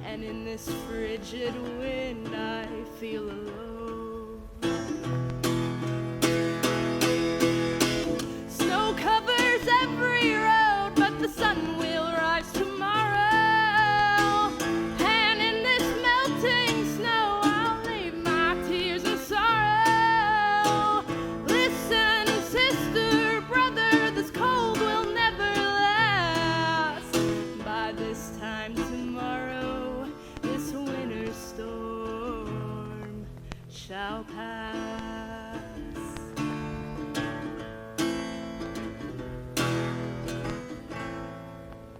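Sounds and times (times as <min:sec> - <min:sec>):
woman singing: 0:00.0 - 0:05.2, 0:07.0 - 0:37.8
acoustic guitar plucked and strummed: 0:00.0 - 0:41.9.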